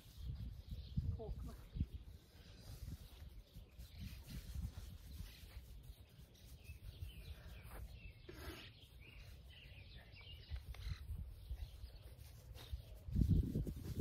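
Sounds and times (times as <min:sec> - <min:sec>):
low wind rumble: 0:00.0 - 0:08.1, 0:10.0 - 0:14.0
faint bird chirps: 0:00.0 - 0:13.8.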